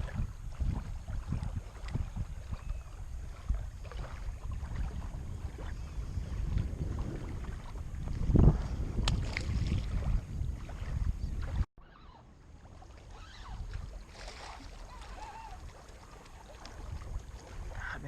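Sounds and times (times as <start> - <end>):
wind buffeting microphone: 0.0 - 11.7, 13.0 - 18.0.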